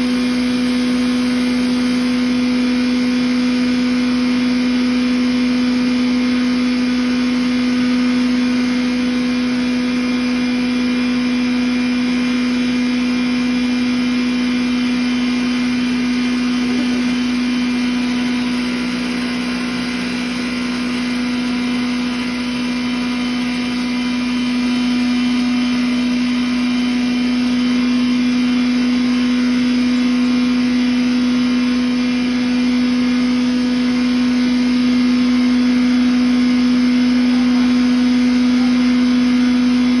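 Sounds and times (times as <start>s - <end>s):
grinder droning hum: 0.0s - 40.0s.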